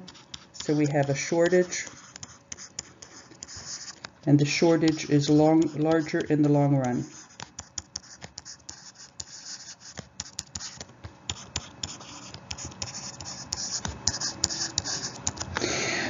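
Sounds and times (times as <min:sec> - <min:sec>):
scratchy rubbing: 0:00.0 - 0:15.6.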